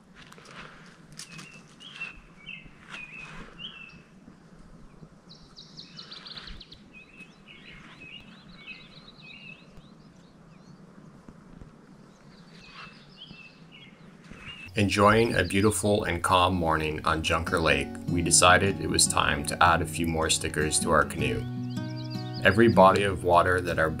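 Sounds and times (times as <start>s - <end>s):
songbirds chirping: 1.2s - 24.0s.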